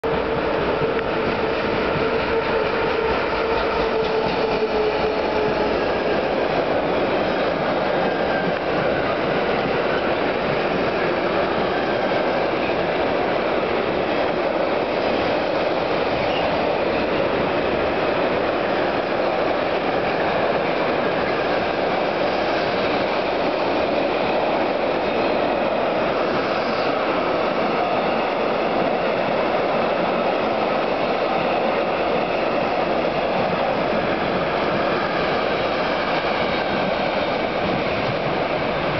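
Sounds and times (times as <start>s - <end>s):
freight train wheel and rail noise: 0.0s - 38.9s.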